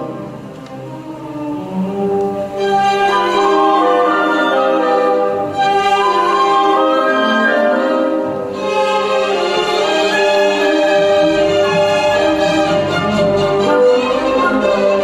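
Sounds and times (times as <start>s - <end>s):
orchestral strings melody: 0.0s - 15.0s.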